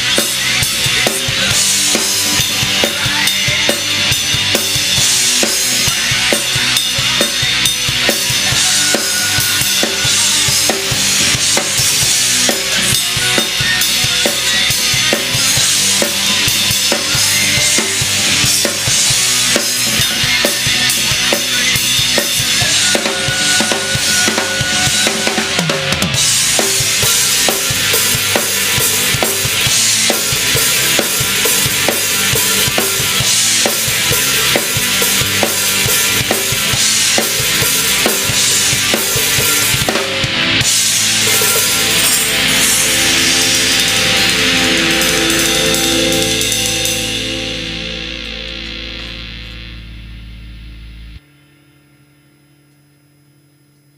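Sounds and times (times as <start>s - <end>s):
bass drum and snare beat: 0.0s - 47.5s
rock band music: 0.0s - 51.2s.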